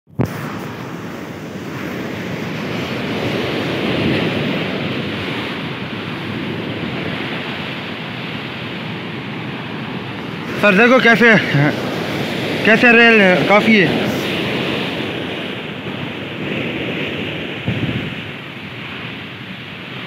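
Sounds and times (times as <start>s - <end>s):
waves breaking: 0.1s - 20.0s
wind on microphone: 0.1s - 20.0s.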